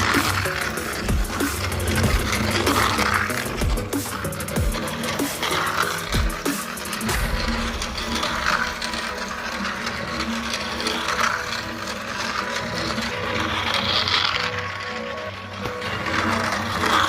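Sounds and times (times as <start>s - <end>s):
toy train motor whirring: 0.0s - 17.0s.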